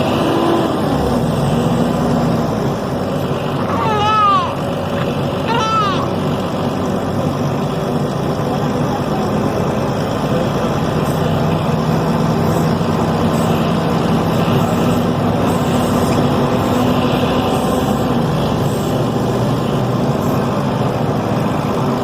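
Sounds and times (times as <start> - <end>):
diesel bus engine running: 0.0 - 22.0.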